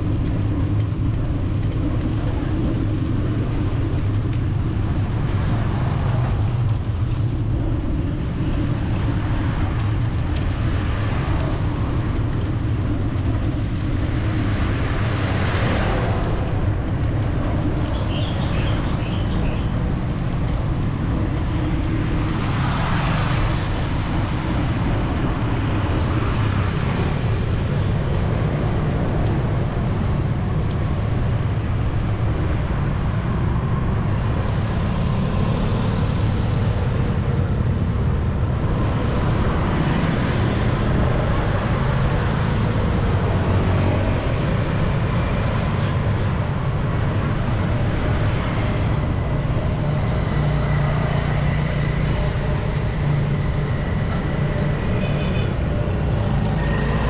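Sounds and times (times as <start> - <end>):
city street traffic rumble: 0.0 - 57.0.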